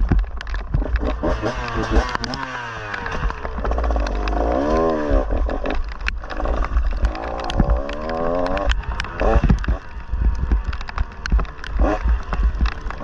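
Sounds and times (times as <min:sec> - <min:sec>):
clicks and knocks: 0:00.0 - 0:13.0
dirt bike engine revving: 0:00.7 - 0:13.0.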